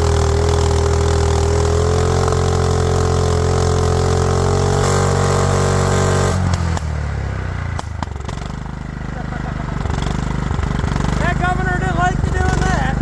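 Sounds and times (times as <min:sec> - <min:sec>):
riding lawnmower engine running: 0:00.0 - 0:13.0.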